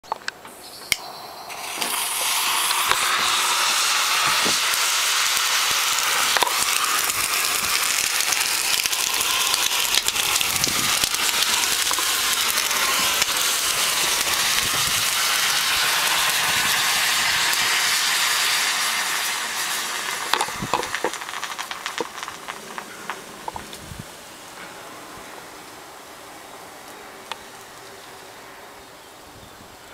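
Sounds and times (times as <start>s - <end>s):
crackles and pops: 0.0s - 24.1s
smoke bomb hissing: 1.0s - 25.6s.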